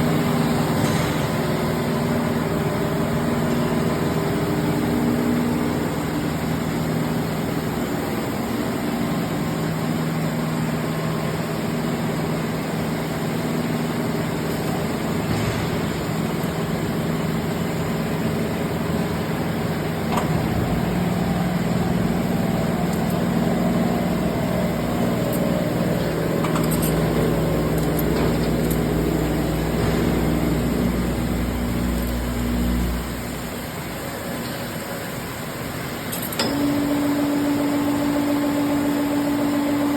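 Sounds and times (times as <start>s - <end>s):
grinder mechanical hum: 0.0s - 39.9s.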